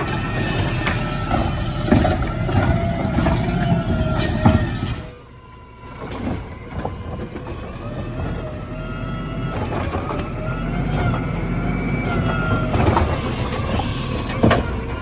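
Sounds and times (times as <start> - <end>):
garbage truck engine and hydraulics: 0.0 - 15.0.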